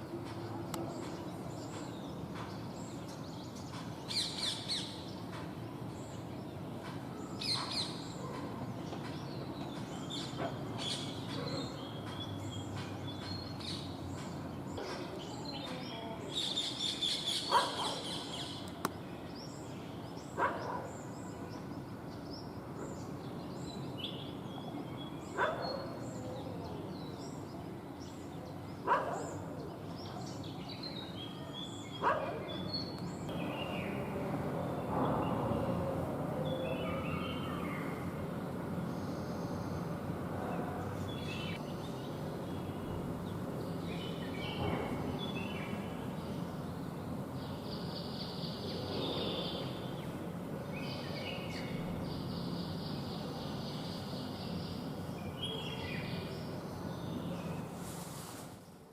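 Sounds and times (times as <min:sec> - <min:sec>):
low steady background noise: 0:00.0 - 0:58.9
small birds chirping: 0:00.0 - 0:58.9.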